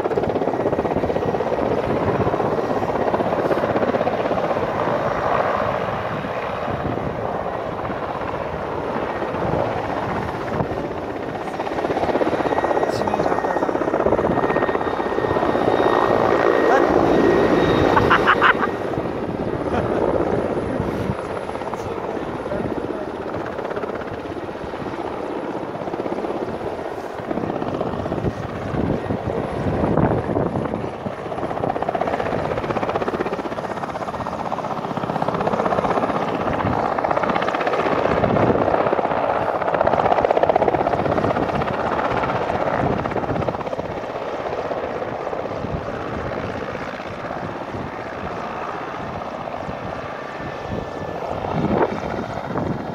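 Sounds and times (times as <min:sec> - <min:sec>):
helicopter rotor and engine: 0:00.0 - 0:52.9.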